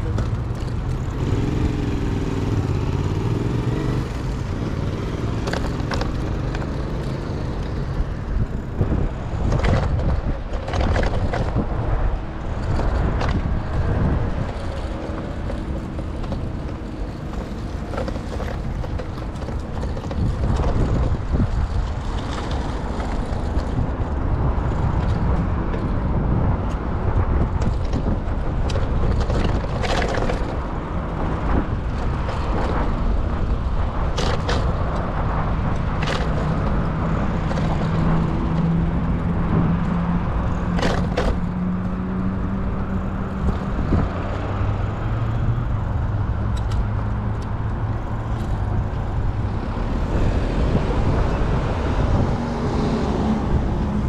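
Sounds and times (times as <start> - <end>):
motor vehicles passing: 0.0 - 54.0.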